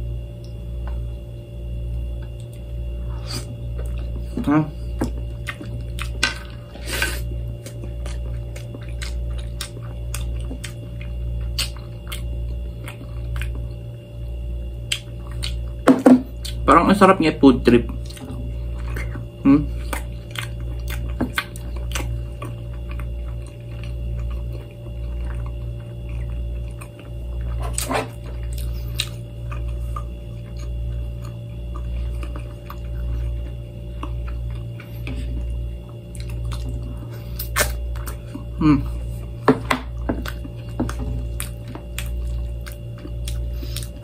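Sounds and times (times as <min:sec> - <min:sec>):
man chewing food: 0:00.0 - 0:16.7, 0:17.8 - 0:44.0.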